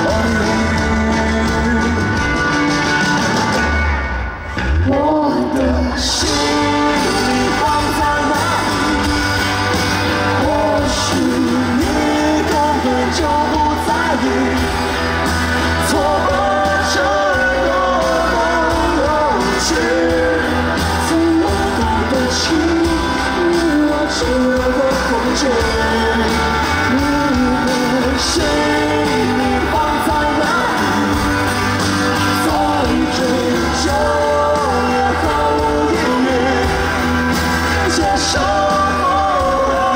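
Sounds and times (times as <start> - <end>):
person singing: 0.0 - 3.7, 4.5 - 39.9
bass line: 0.0 - 39.9
pop-rock band music: 0.0 - 39.9.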